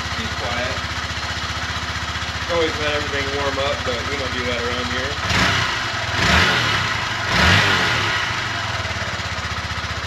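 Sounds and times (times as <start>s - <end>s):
motorcycle engine revving and idling: 0.0s - 10.0s.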